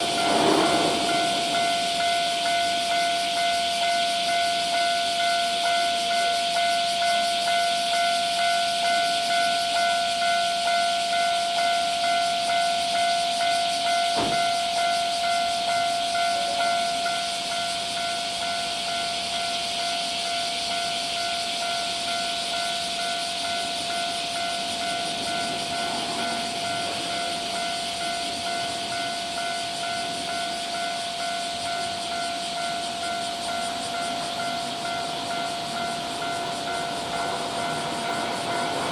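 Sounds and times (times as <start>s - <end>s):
crossing warning bell ringing: 0.0s - 38.9s.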